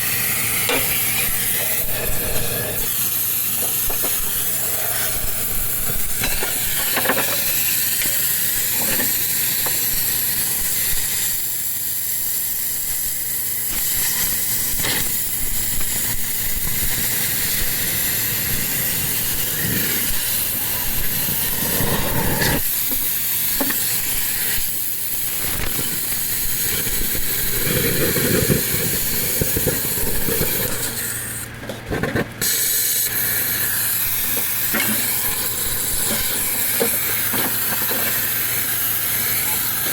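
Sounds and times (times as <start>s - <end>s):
steady hissing: 0.0s - 31.4s, 32.4s - 39.9s.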